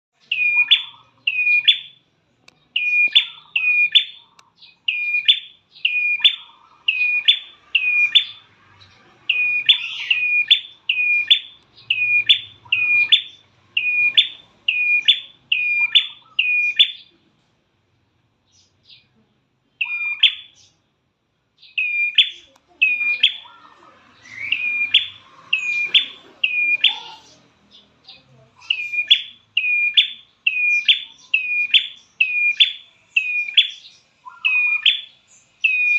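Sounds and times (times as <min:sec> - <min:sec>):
bird sharp high chirps: 0:00.2 - 0:02.0, 0:02.6 - 0:17.2, 0:19.7 - 0:20.9, 0:21.6 - 0:35.9.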